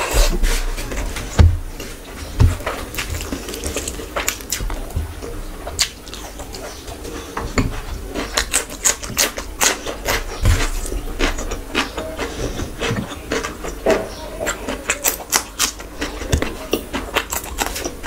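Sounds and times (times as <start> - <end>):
wet chewing: 1.7 - 18.0.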